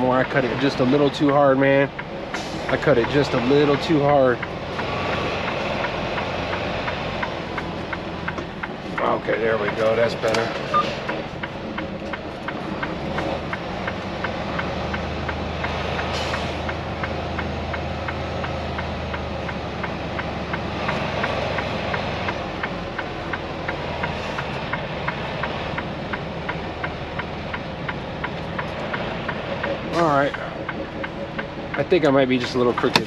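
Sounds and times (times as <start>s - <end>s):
diesel truck engine idling: 0.0s - 33.0s
regular light ticking: 0.0s - 33.0s.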